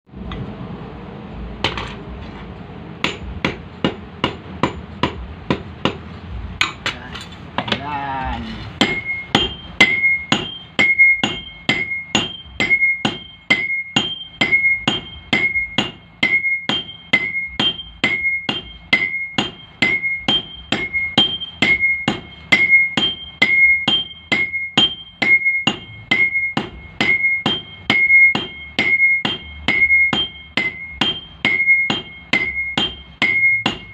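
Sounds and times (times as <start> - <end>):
hammer striking iron on anvil: 1.6 - 2.0, 3.0 - 7.0, 8.8 - 33.9.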